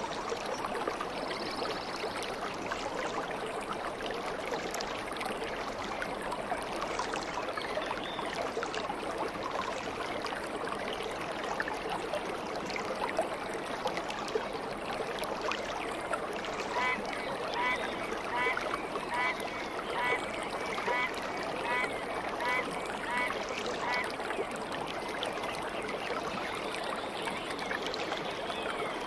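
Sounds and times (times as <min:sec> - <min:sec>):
stream water babbling: 0:00.0 - 0:29.0.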